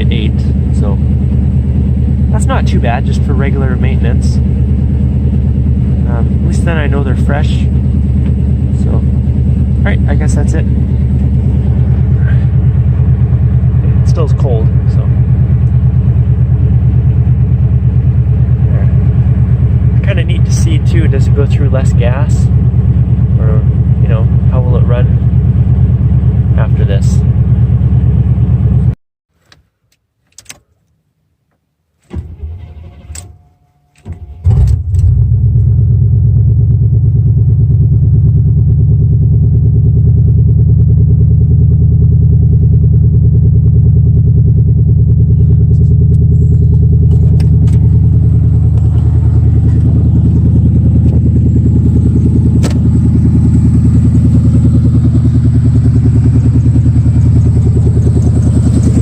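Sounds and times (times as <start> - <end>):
truck engine cranking and idling: 0.0 - 29.7, 31.9 - 59.0.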